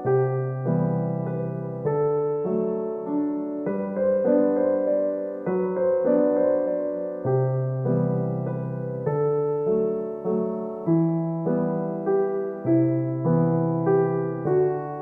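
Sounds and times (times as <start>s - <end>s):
soft piano chords: 0.0s - 15.0s
sustained electric piano tone: 0.0s - 15.0s.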